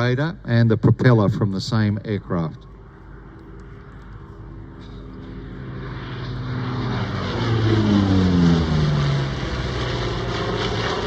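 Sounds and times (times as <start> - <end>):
propeller plane flying past: 1.4 - 11.0.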